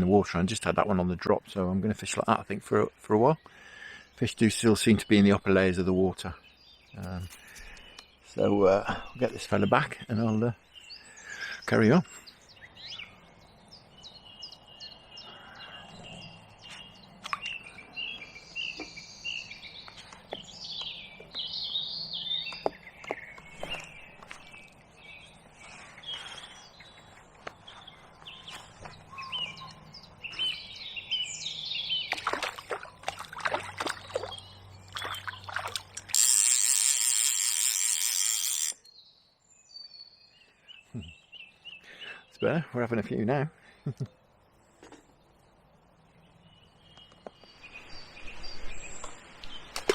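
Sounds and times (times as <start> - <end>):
songbirds singing and chirping: 0.0 - 49.9.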